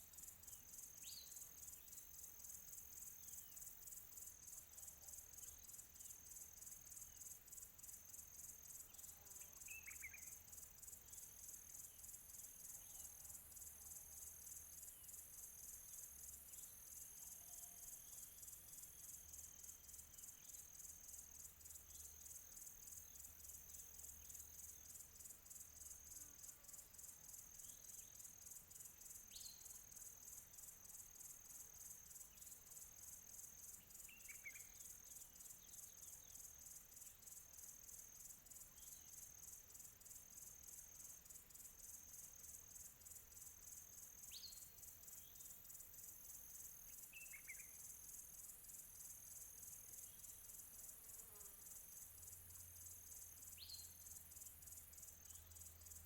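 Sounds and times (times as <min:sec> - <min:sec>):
distant crickets chirping: 0:00.0 - 0:56.0.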